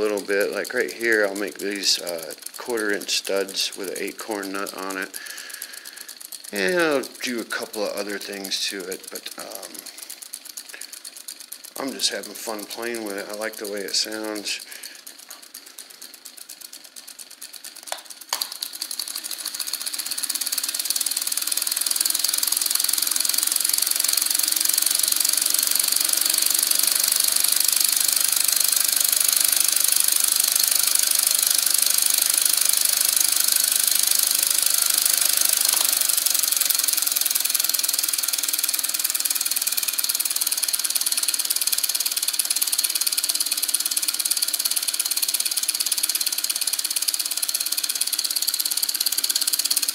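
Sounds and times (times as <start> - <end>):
solenoid engine clattering: 0.0 - 49.9.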